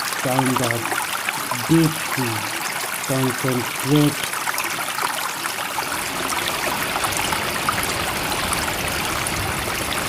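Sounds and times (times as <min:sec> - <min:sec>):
rushing flowing water: 0:00.0 - 0:10.0.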